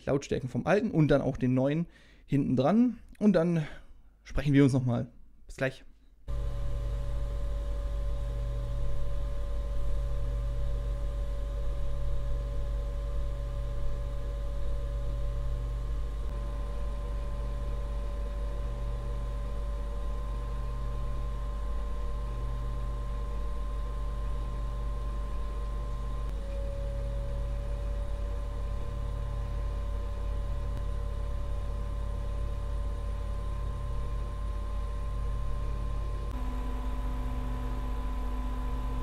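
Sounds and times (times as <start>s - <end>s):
cpu cooler fan humming with whine: 6.3s - 39.0s.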